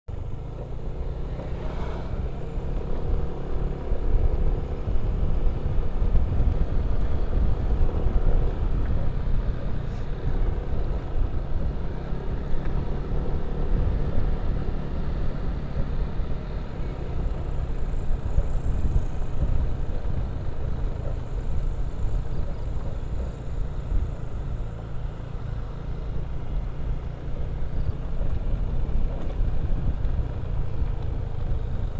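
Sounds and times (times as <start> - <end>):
motorcycle engine: 0.1 - 31.9
road noise: 0.1 - 31.9
wind buffeting microphone: 1.9 - 31.9.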